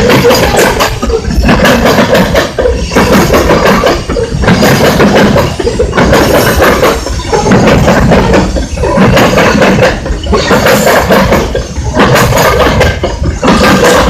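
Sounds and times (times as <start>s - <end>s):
freight train rolling past: 0.0s - 14.0s
train wheels on rails: 0.0s - 14.0s.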